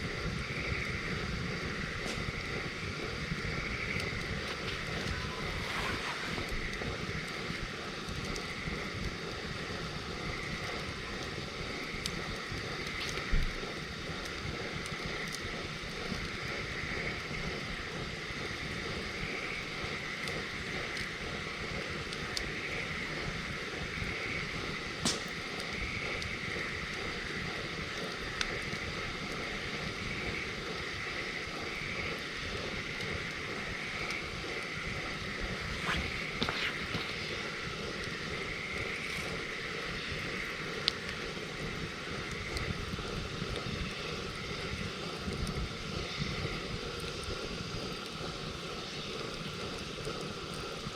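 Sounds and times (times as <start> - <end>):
campfire crackling and popping: 0.0 - 50.9
fire hissing: 0.0 - 50.9.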